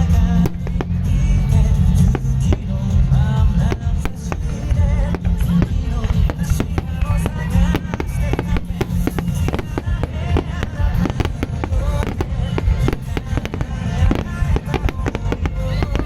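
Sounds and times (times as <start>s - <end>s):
fireworks bursts and crackles: 0.0s - 16.0s
rock song over loudspeakers: 0.0s - 16.0s.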